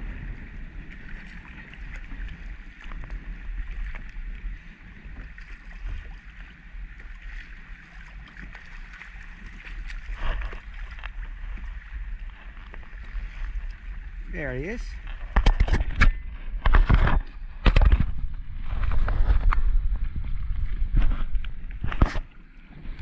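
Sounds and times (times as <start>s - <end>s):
water lapping against a kayak hull: 0.0s - 23.0s
wind on the microphone: 0.0s - 23.0s.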